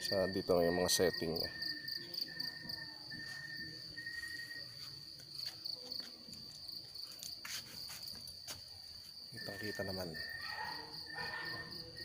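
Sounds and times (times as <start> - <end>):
crickets chirping: 0.0 - 12.0
lower insect tone: 0.0 - 12.0.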